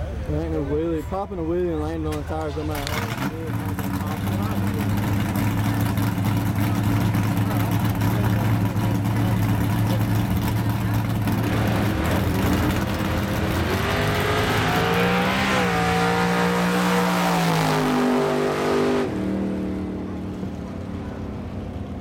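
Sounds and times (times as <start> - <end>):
truck engine revving: 2.1 - 21.9.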